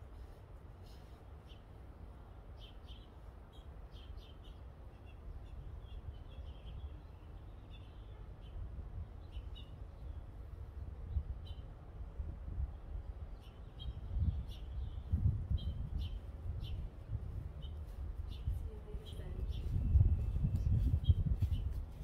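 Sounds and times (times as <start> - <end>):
small birds chirping: 0.2 - 11.8, 12.6 - 22.0.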